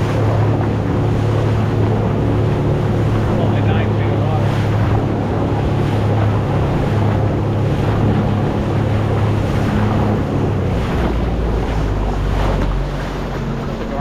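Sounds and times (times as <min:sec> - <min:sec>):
boat engine humming: 0:00.0 - 0:14.0
choppy sea water rushing: 0:00.0 - 0:14.0
wind noise on microphone: 0:00.0 - 0:14.0.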